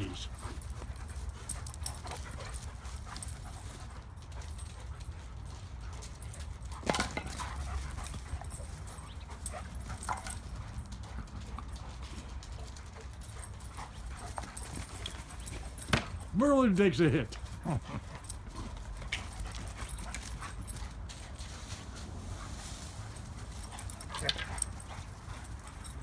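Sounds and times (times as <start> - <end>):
dogs play-fighting: 0.0 - 16.4, 17.3 - 26.0.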